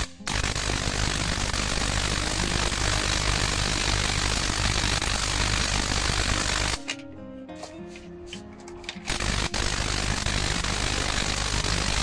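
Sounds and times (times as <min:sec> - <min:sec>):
tesla coil harsh buzz: 0:00.0 - 0:06.8, 0:09.1 - 0:12.0.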